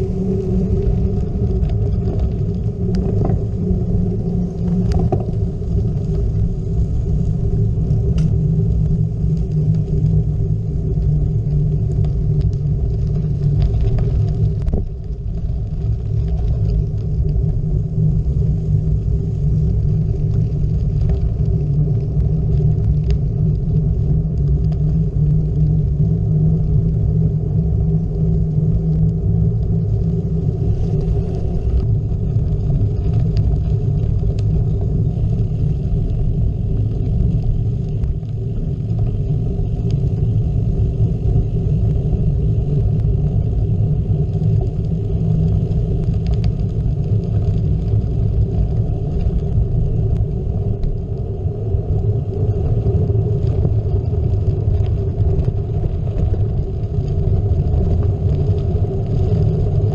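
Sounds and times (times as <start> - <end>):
bike tyres rolling on gravel: 0.0 - 59.9.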